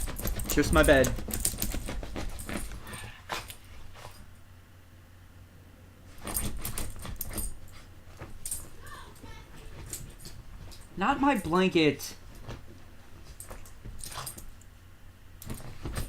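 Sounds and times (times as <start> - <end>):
puppy scratching bedding: 0.0 - 4.4, 6.1 - 11.6, 12.2 - 14.7, 15.4 - 16.0.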